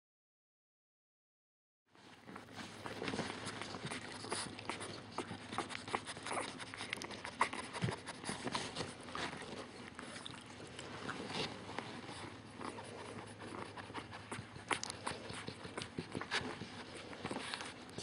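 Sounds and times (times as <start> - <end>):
bedding rustling: 2.0 - 18.0
dog snuffling and sniffing: 2.0 - 18.0.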